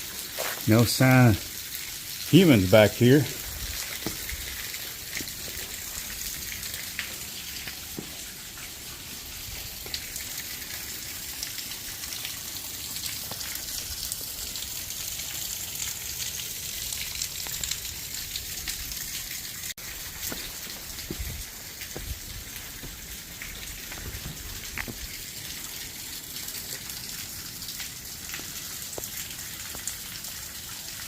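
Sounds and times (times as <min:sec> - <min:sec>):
creek water running over rocks: 0:00.0 - 0:31.0.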